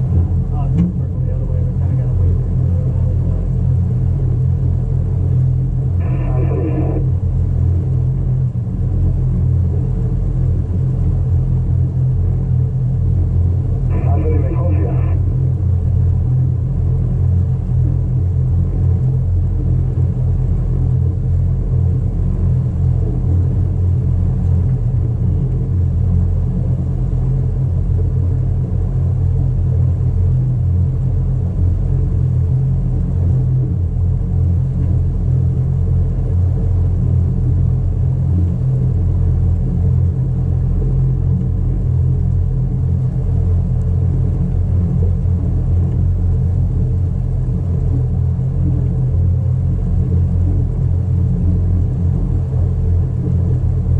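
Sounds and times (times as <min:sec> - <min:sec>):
boat engines droning: 0:00.0 - 0:53.9.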